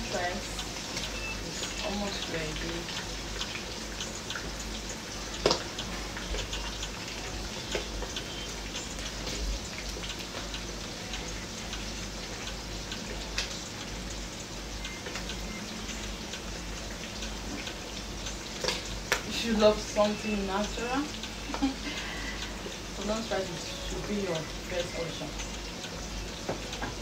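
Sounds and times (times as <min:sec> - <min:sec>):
chicken frying in hot oil: 0:00.0 - 0:27.0.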